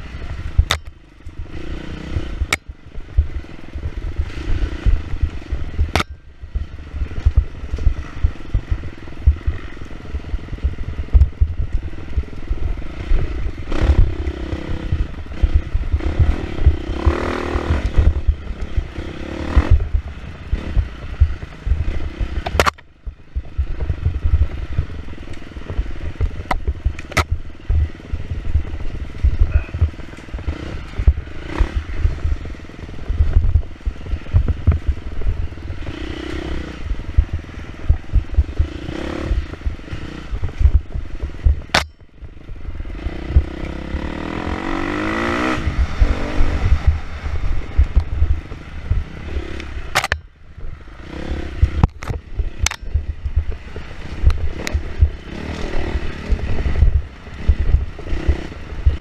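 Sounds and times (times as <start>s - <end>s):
dirt bike engine revving: 0.0s - 41.9s, 42.7s - 59.0s
wind buffeting microphone: 0.0s - 59.0s.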